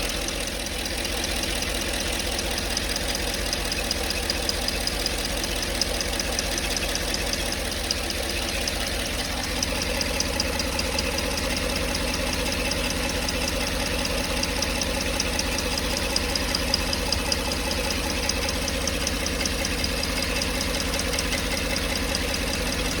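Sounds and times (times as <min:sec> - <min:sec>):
car engine idling: 0:00.0 - 0:23.0
fast even engine tapping: 0:00.8 - 0:23.0.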